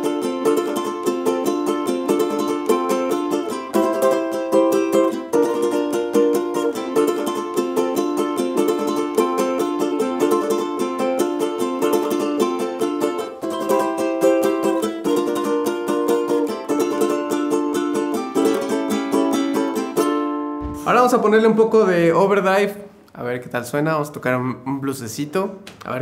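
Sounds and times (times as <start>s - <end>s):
ukulele strumming chords: 0.0s - 21.5s.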